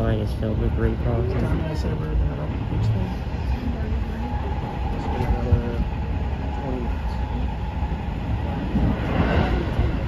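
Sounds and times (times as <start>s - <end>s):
train wheels rumbling on track: 0.0s - 10.0s.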